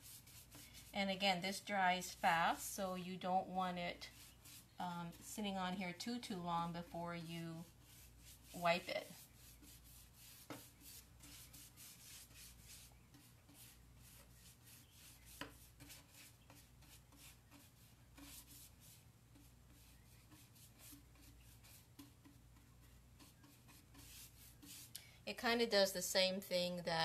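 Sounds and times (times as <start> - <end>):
brush scrubbing wood: 0.0 - 1.0, 3.2 - 24.9.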